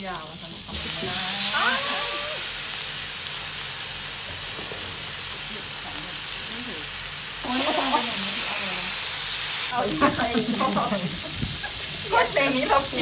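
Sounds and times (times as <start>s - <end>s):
meat sizzling on a grill pan: 0.0s - 13.0s.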